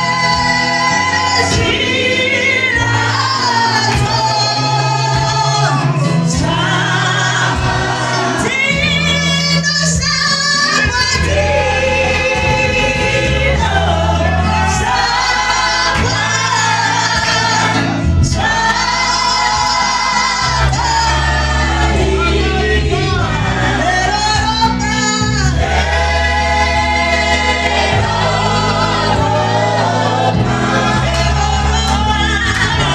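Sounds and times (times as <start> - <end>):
backing singers: 0.0 - 32.9
low bass notes: 0.0 - 32.9
woman leading gospel singing: 0.0 - 32.9.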